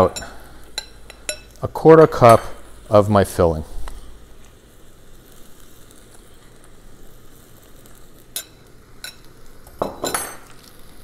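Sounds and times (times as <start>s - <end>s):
liquid simmering in a skillet: 0.0s - 11.0s.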